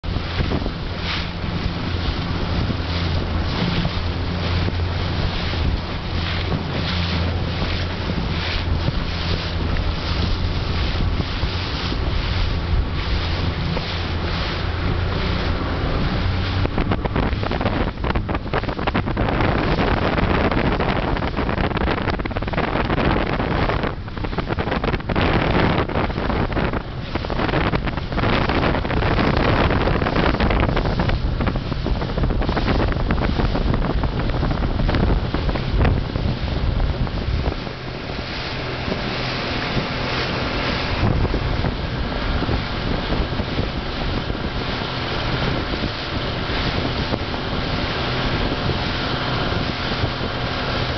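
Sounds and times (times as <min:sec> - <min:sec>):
rushing water and waves: 0:00.0 - 0:50.9
wind buffeting microphone: 0:00.0 - 0:50.9.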